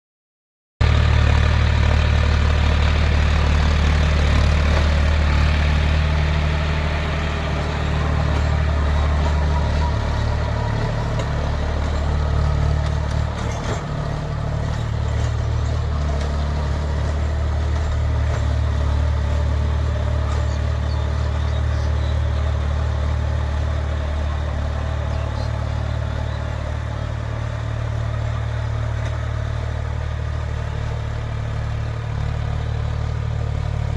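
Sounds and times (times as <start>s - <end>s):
tractor diesel engine running: 0.8s - 33.9s.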